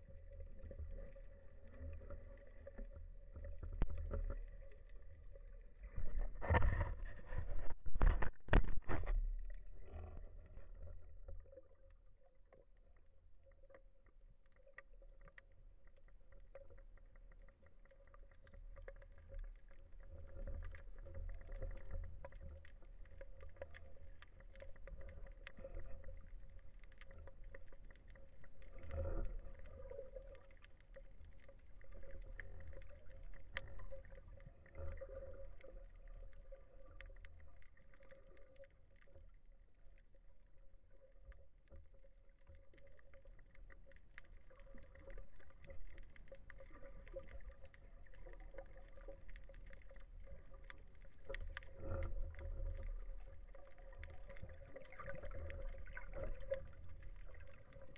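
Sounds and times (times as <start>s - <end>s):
underwater rumble of moving water: 0.0s - 57.9s.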